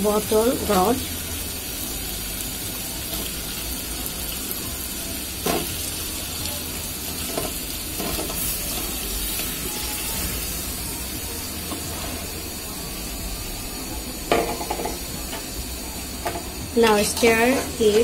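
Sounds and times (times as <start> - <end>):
curry sizzling in a pot: 0.0 - 18.0.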